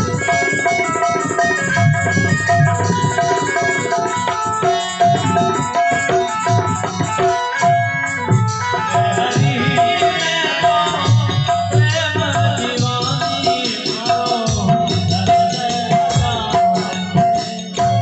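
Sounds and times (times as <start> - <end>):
man singing: 0.0 - 6.6, 8.7 - 18.0
hand drum playing: 0.0 - 18.0
harmonium: 0.0 - 18.0
jingling hand percussion: 0.0 - 18.0.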